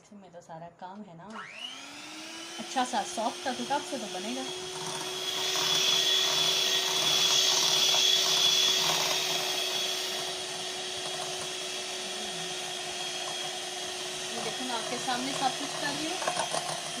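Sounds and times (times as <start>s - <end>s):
electric mixer motor whine: 1.3s - 17.0s.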